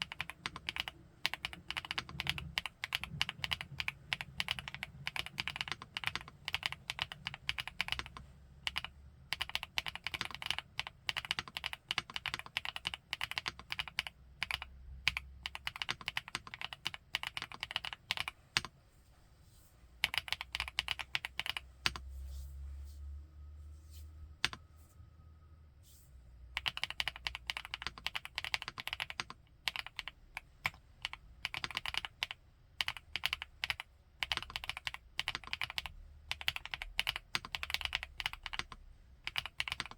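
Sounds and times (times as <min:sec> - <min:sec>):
mechanical keyboard typing: 0:00.0 - 0:18.7, 0:20.0 - 0:22.0, 0:26.6 - 0:39.9.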